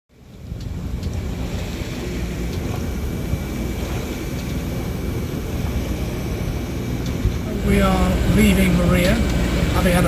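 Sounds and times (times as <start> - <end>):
water rushing past a boat: 0.1 - 10.0
wind on microphone: 0.1 - 10.0.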